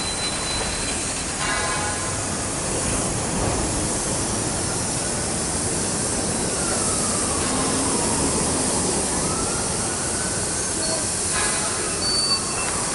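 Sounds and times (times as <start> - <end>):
steady hiss and rumble: 0.0 - 12.9
train cars rolling slowly: 0.0 - 12.9.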